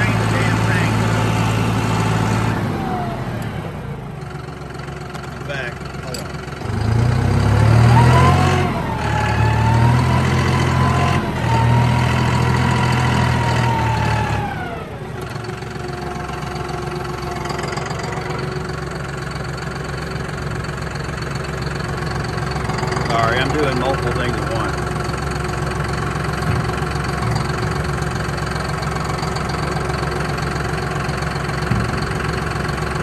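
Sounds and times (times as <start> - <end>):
engine idling: 0.0 - 33.0
tractor diesel engine whining: 0.0 - 33.0.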